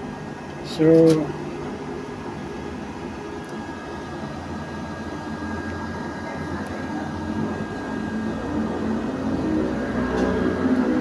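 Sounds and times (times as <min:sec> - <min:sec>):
low mechanical hum and rumble: 0:00.0 - 0:11.0
thin steady whine: 0:00.0 - 0:11.0.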